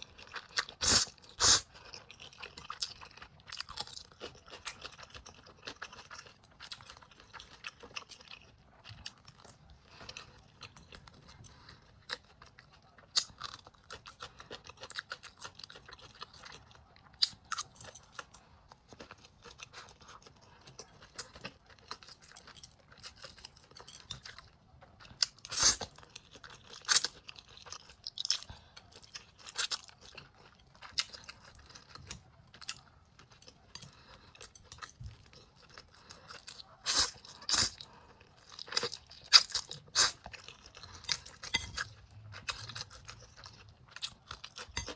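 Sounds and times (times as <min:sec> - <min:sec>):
person chewing: 0:00.0 - 0:44.9.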